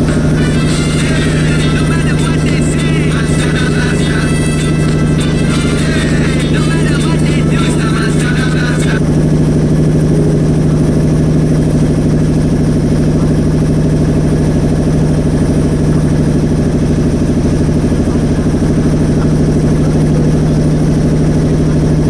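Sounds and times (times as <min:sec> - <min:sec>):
motorboat engine chugging: 0:00.0 - 0:22.0.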